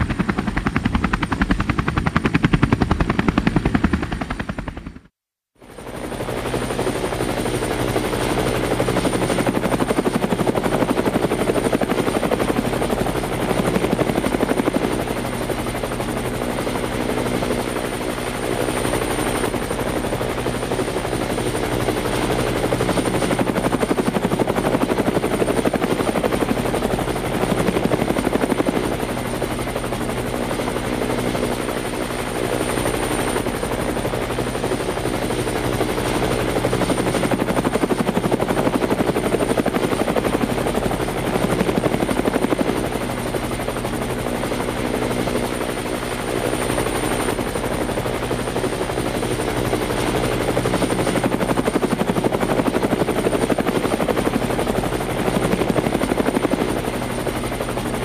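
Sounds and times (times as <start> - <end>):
helicopter rotor chop: 0.0 - 58.0.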